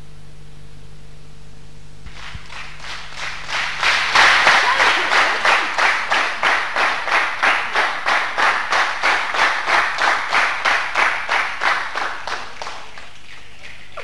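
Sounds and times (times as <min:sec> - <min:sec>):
group clapping in unison: 0:02.0 - 0:14.0.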